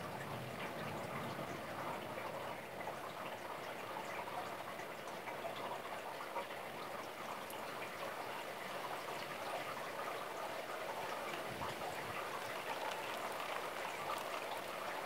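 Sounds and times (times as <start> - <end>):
light ticks of raindrops: 0.0 - 15.0
steady rain hiss: 0.0 - 15.0.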